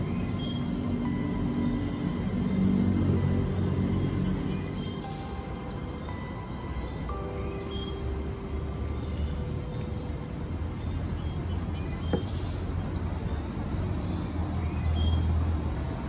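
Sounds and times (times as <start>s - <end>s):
faint background music: 0.0s - 16.0s
small birds chirping: 0.0s - 16.0s.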